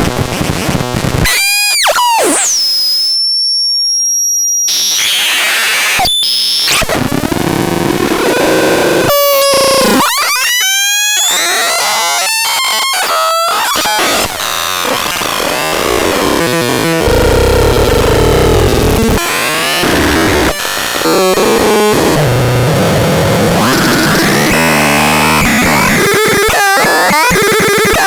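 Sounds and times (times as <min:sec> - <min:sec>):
harsh electronic synthesizer noise: 0:04.7 - 0:28.0.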